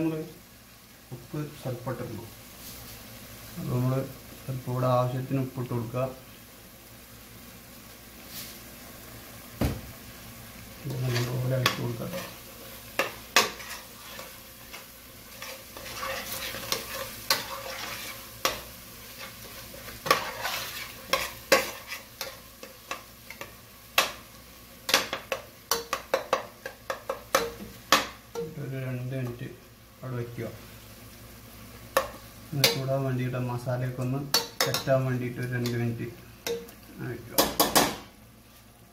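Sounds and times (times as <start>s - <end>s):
steady sizzle: 0.0s - 38.9s.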